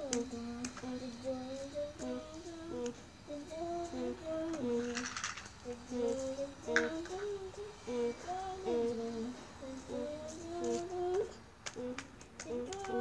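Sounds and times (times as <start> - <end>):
high voice singing: 0.0 - 13.0.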